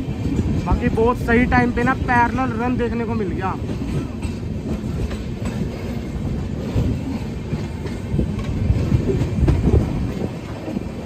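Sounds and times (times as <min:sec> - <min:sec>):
clicking over rail joints: 0:00.0 - 0:11.0
train wheels rumbling on rails: 0:00.0 - 0:11.0.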